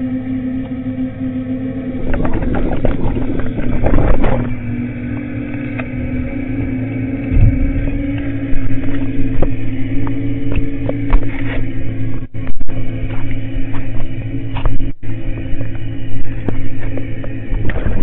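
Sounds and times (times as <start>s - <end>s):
excavator engine droning: 0.0s - 18.0s.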